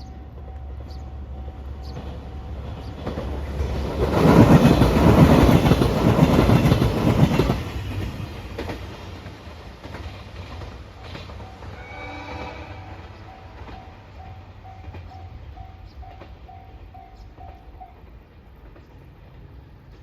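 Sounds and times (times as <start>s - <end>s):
train rumble: 0.0s - 20.0s
train wheels clattering on rails: 0.0s - 20.0s.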